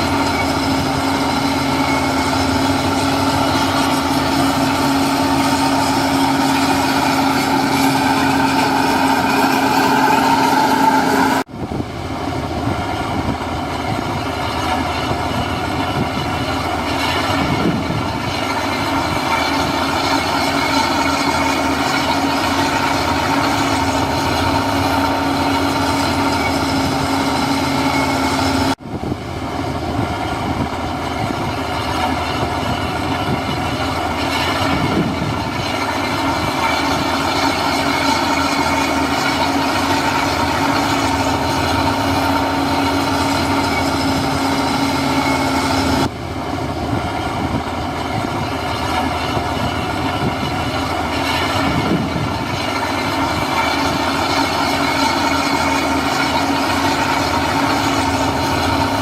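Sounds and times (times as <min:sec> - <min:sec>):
heavy diesel machinery engine hum: 0:00.0 - 0:59.0.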